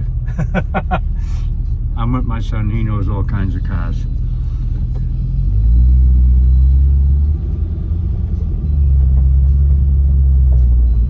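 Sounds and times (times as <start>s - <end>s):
car rumble inside cabin: 0.0s - 11.0s.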